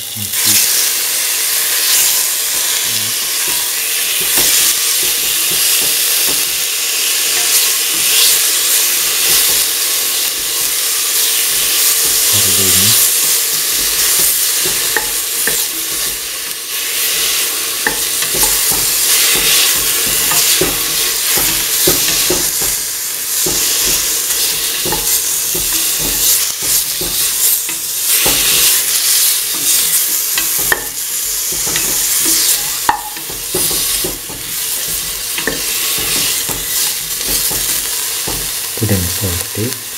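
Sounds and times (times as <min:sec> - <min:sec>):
meat sizzling in hot oil: 0:00.0 - 0:39.9.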